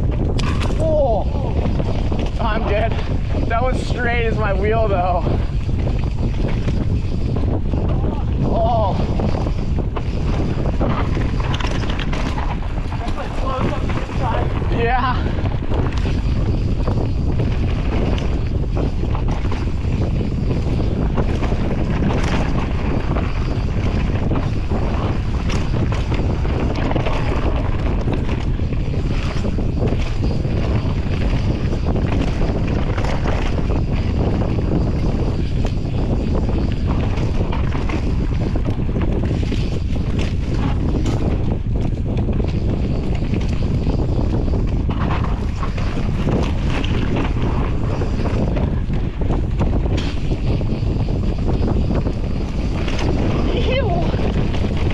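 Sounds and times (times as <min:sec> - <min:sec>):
bike clattering over bumps: 0:00.0 - 0:54.9
tyre noise on dirt trail: 0:00.0 - 0:54.9
wind rushing over microphone: 0:00.0 - 0:54.9.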